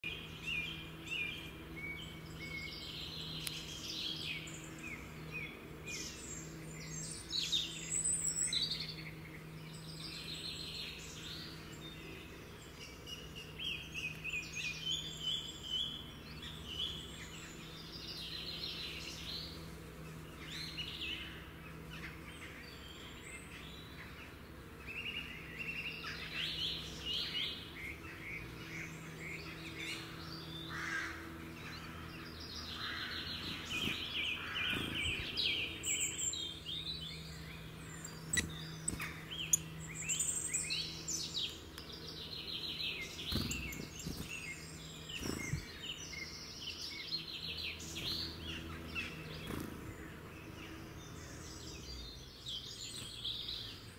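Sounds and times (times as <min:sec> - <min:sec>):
birds chirping and singing: 0:00.0 - 0:53.9
low steady hum: 0:00.0 - 0:53.9.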